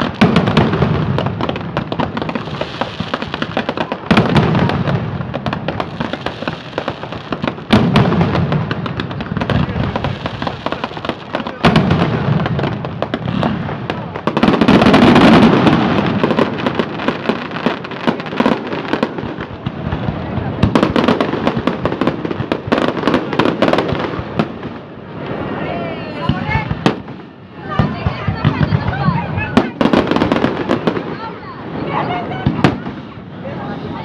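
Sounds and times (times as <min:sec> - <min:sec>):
firework shells booming: 0:00.0 - 0:33.4
fireworks crackling and popping: 0:00.0 - 0:34.0.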